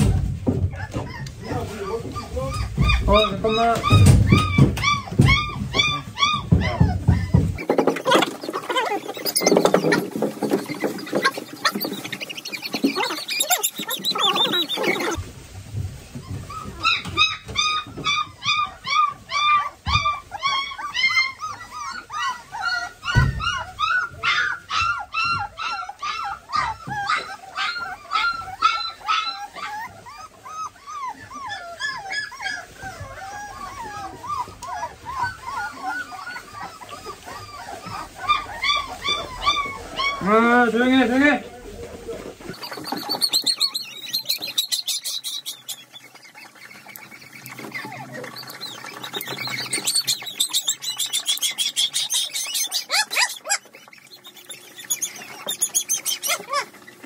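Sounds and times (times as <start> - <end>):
puppy whimpering and squeaking: 0.0 - 15.2, 16.2 - 41.4, 42.4 - 57.0
rustling: 0.0 - 57.0.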